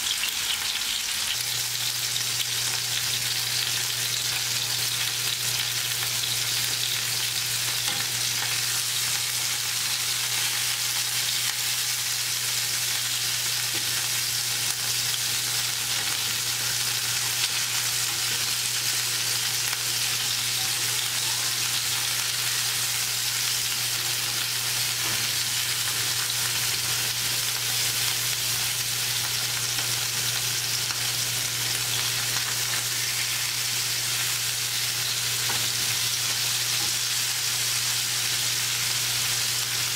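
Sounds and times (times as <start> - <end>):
chicken sizzling in a grill pan: 0.0 - 39.9.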